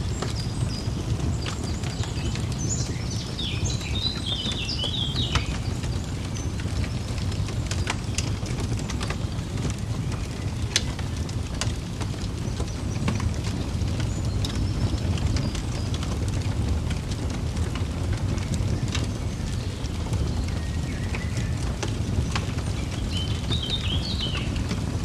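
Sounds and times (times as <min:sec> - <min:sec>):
birdsong chirping: 0:00.0 - 0:11.0, 0:12.2 - 0:25.0
fire crackling and popping: 0:00.0 - 0:25.0.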